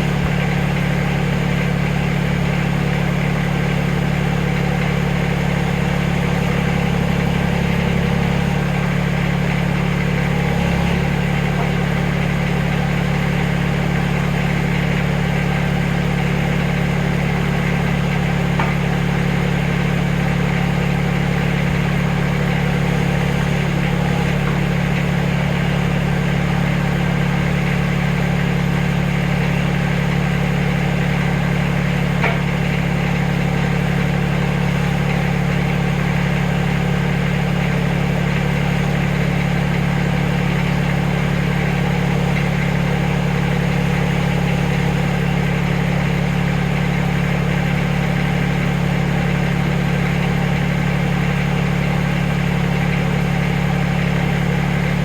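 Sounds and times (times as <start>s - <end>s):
backhoe engine idling: 0.0s - 55.0s.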